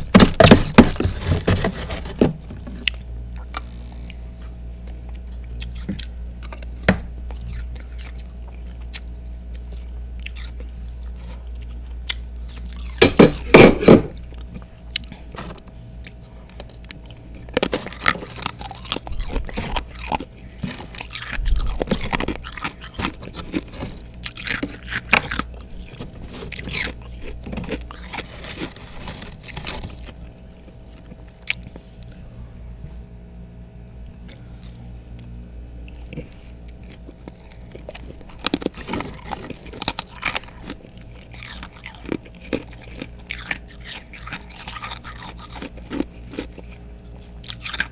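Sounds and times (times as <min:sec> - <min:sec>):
ice being bitten and chewed: 0:00.0 - 0:32.2, 0:34.3 - 0:47.9.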